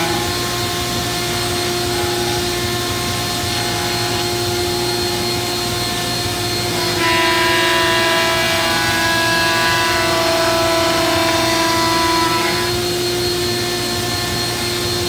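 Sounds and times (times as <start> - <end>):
cnc router spindle whining: 0.0 - 15.0.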